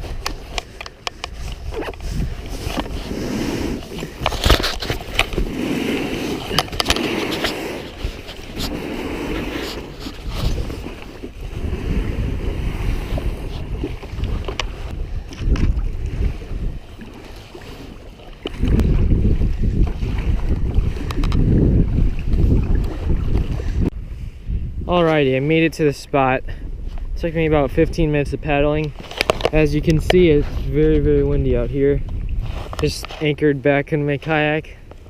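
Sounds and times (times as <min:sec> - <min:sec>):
water splashing and sloshing: 0:00.0 - 0:24.2, 0:25.0 - 0:35.0
wind buffeting microphone: 0:00.0 - 0:35.0.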